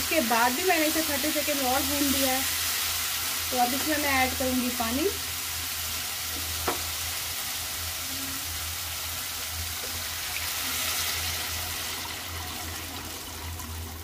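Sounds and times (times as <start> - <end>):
masala sizzling in oil: 0.0 - 14.0.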